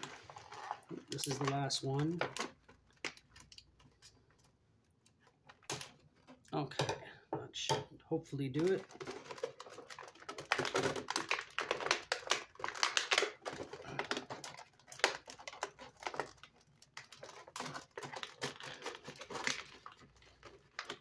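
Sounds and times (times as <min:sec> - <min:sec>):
plastic and cardboard crinkling: 0:00.0 - 0:06.6, 0:08.4 - 0:21.0.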